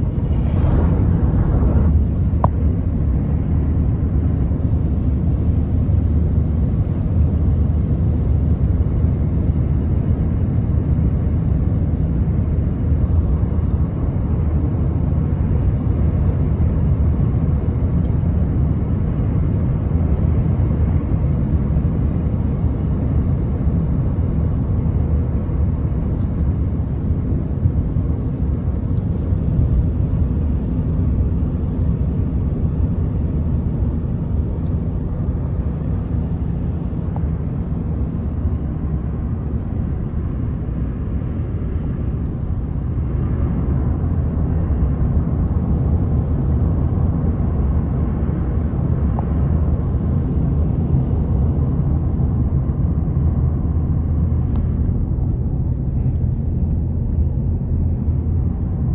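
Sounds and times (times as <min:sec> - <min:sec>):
car road noise at highway speed: 0:00.0 - 0:58.9.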